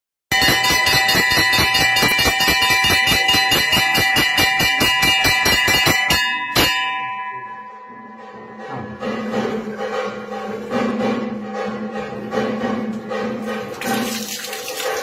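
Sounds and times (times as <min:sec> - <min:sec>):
temple bells clanging: 0:00.3 - 0:13.8.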